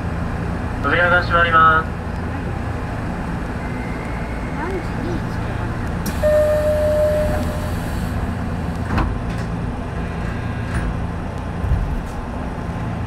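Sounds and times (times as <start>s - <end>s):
electric train low hum: 0.0s - 13.0s.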